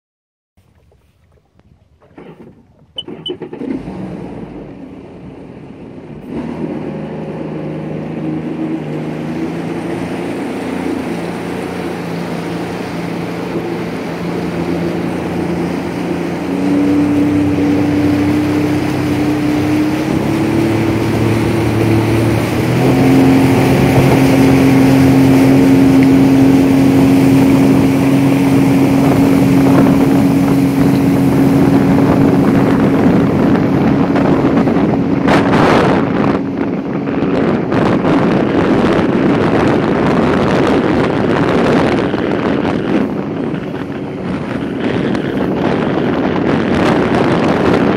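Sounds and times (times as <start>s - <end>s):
personal watercraft engine speeding up: 0.6s - 47.9s.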